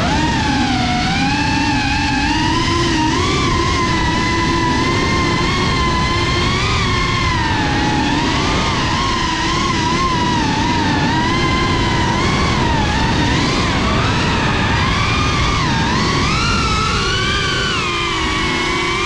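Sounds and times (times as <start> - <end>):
drone motors whining: 0.0 - 19.0
rush of wind: 0.0 - 19.0.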